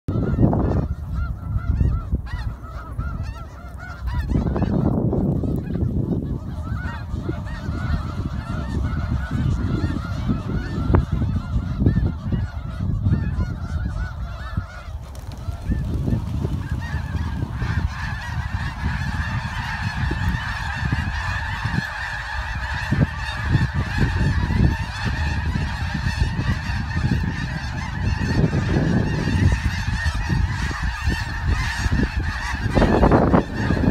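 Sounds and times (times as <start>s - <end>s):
geese honking: 0.1s - 33.9s.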